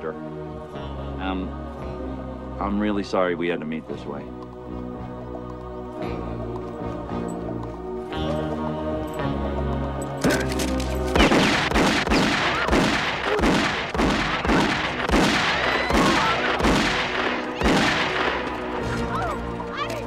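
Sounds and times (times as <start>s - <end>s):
film score music: 0.0s - 20.0s.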